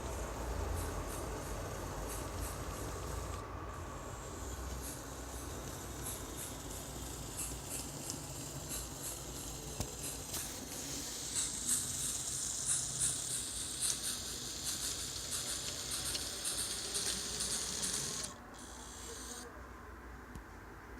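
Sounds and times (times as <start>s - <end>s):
model train steam chuffs: 0.0s - 19.5s
steady steam hiss: 0.0s - 19.5s.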